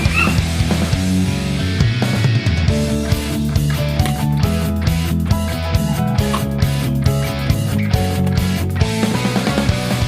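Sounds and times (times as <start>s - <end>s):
rock music with guitar and drums: 0.0s - 10.0s.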